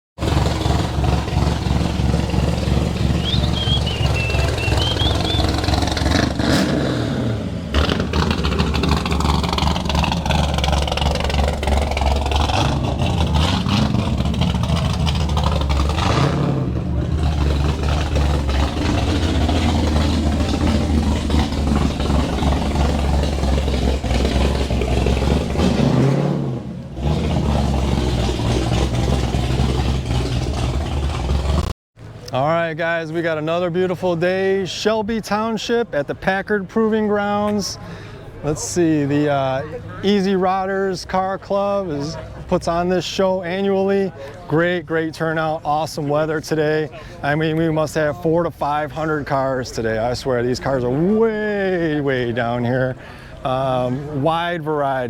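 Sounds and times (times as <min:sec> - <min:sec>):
car engines running and revving: 0:00.2 - 0:55.0.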